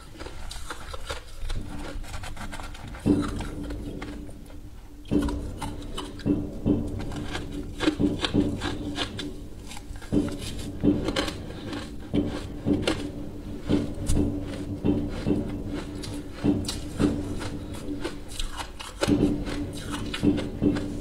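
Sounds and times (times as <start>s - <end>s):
crunching and chewing ice: 0.0s - 21.0s.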